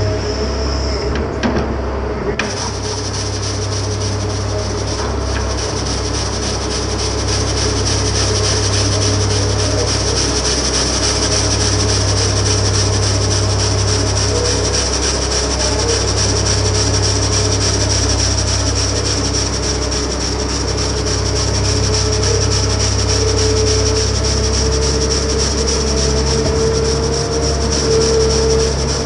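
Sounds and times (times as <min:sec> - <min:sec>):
diesel engine running: 0:00.0 - 0:29.0
rotary broom sweeping asphalt: 0:02.4 - 0:29.0.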